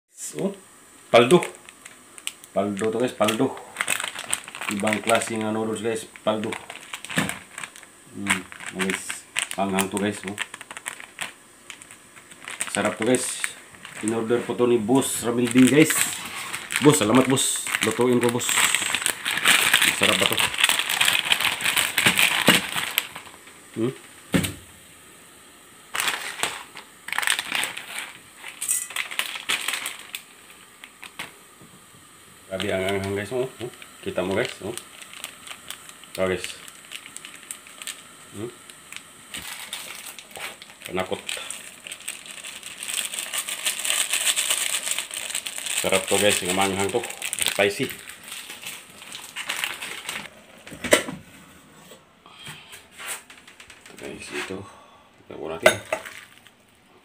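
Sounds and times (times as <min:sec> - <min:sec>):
crackly handling noises: 0:00.9 - 0:24.6, 0:25.9 - 0:54.6, 0:55.6 - 0:56.8
plastic packet crinkling: 0:01.1 - 0:24.4, 0:25.9 - 0:50.8, 0:53.0 - 0:54.3, 0:55.8 - 0:56.8.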